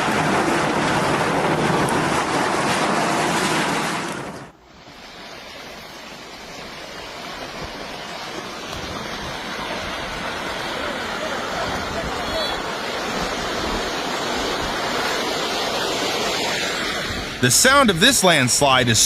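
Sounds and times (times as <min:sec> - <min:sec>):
rushing water noise: 0:00.0 - 0:19.0.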